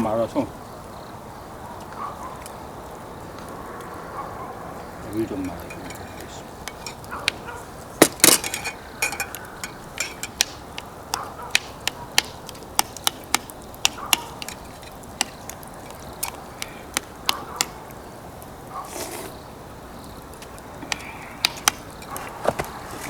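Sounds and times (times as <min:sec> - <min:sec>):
wood fire crackling and popping: 0:01.2 - 0:23.0.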